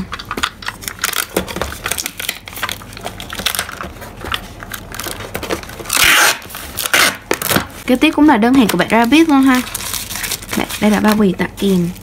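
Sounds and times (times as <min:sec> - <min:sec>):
packing tape crackling off dispenser: 0:00.0 - 0:07.8, 0:08.6 - 0:12.0.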